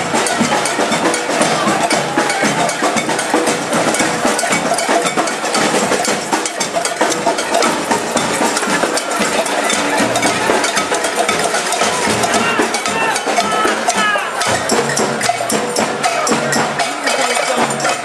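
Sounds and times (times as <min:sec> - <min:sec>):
crowd noise: 0:00.0 - 0:18.0
hand percussion clacks: 0:00.0 - 0:18.0.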